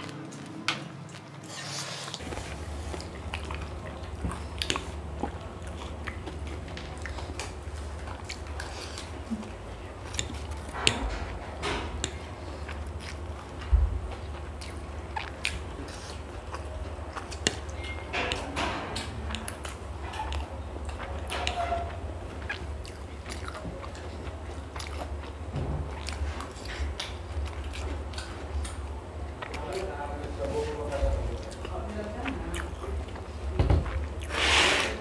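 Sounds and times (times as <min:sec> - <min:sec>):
people chewing food: 0:00.0 - 0:35.0
steady low hum: 0:00.0 - 0:35.0.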